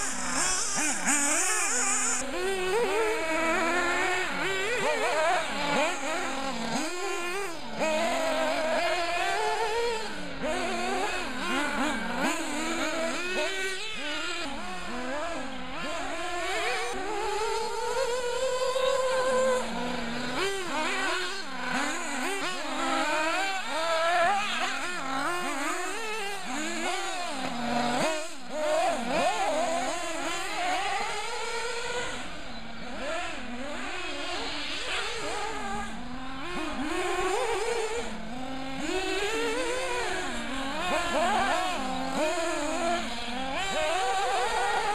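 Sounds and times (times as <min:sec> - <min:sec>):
rc buggy engines whining: 0:00.0 - 0:44.9.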